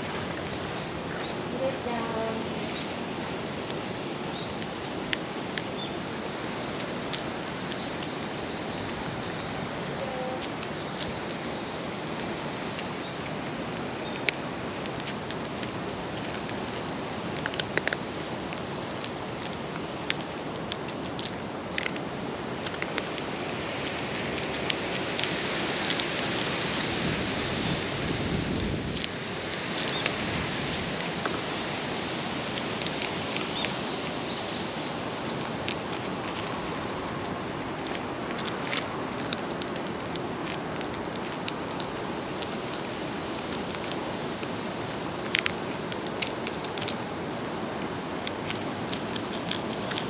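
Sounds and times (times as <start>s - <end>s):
cat crunching dry kibble: 0.0s - 50.0s
steady outdoor hiss: 0.0s - 50.0s.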